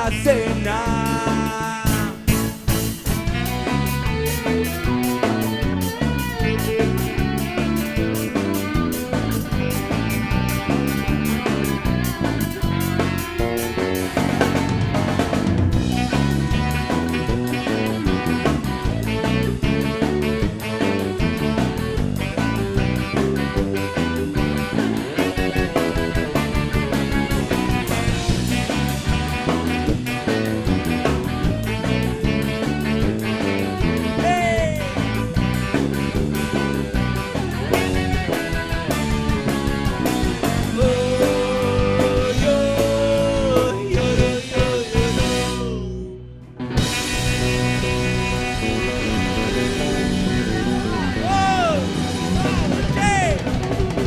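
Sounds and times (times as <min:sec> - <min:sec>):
rock band with guitar and drums: 0:00.0 - 0:54.0.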